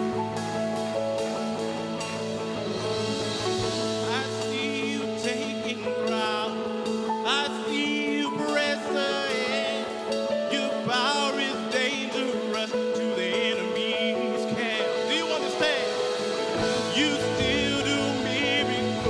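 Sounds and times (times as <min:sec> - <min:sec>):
melodic lead line with vibrato: 0:00.0 - 0:19.0
sustained keyboard chords: 0:00.0 - 0:19.0.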